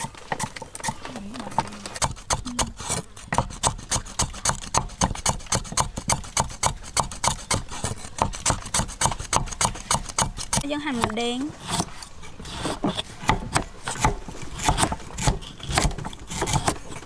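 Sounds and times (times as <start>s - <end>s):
cleaver chopping on wooden block: 2.0s - 11.9s, 12.5s - 16.8s.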